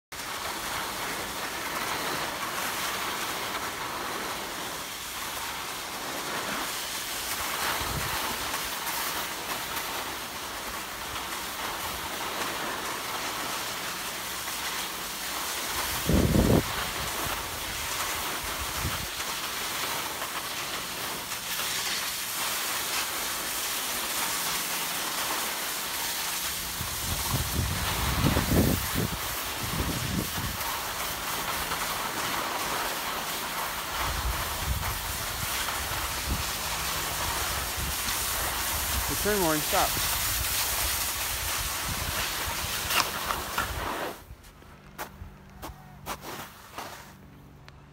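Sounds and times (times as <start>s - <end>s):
skis sliding over snow: 0.1s - 47.4s.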